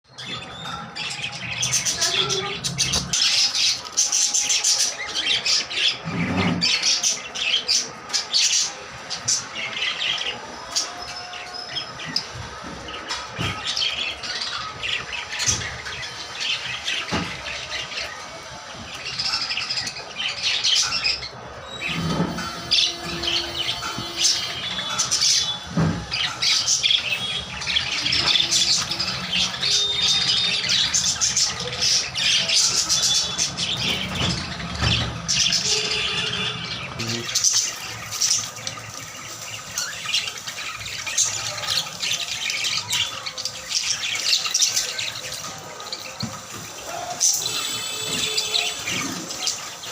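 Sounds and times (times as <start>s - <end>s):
parrots squawking and chirping: 0.1s - 49.9s.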